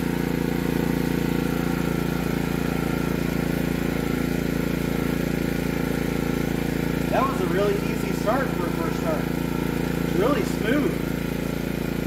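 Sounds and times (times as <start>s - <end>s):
generator running steadily: 0.0s - 12.0s.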